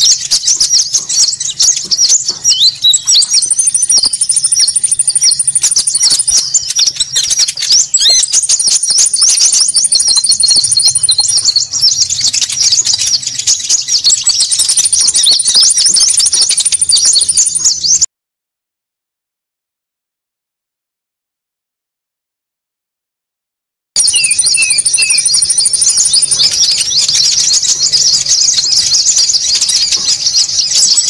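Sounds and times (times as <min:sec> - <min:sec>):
thin high bird trill: 0:00.0 - 0:18.0, 0:24.0 - 0:31.0
recorded bird chirping chorus: 0:00.0 - 0:18.1, 0:24.0 - 0:31.0.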